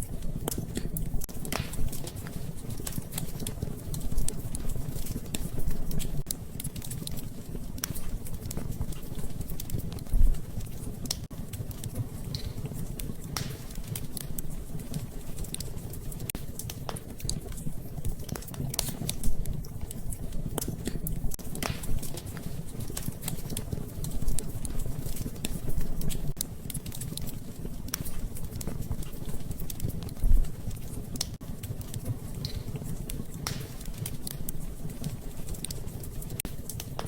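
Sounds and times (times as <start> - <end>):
fire crackling and popping: 0.0 - 37.0
fire flames rumbling: 0.0 - 37.0.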